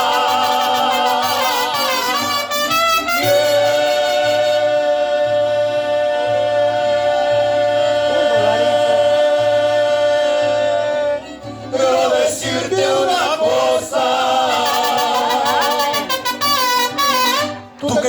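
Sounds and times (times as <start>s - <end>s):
live band with brass and voice: 0.0s - 11.3s, 14.2s - 18.0s.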